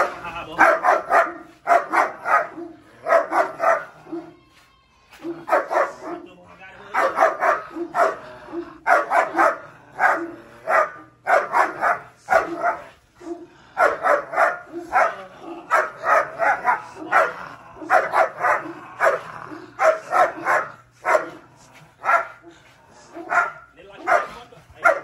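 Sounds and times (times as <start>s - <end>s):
large dog barking: 0.0s - 4.4s, 5.2s - 25.0s.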